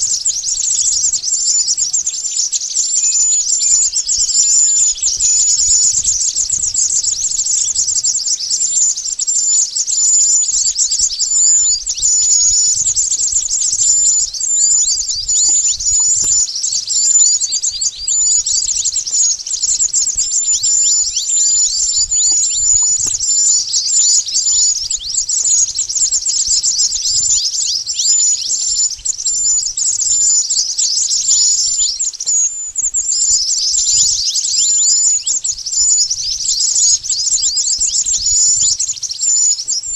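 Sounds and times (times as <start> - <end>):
birds chirping rapidly: 0.0 - 39.9.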